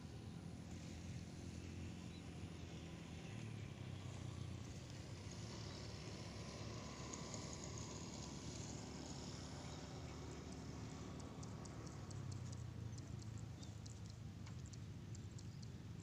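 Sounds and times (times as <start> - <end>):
distant engine hum: 0.0 - 16.0
faint outdoor background noise: 0.0 - 16.0.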